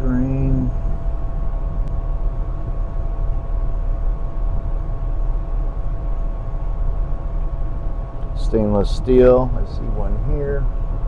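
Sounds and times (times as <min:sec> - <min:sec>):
hvac unit rumbling: 0:00.0 - 0:11.0.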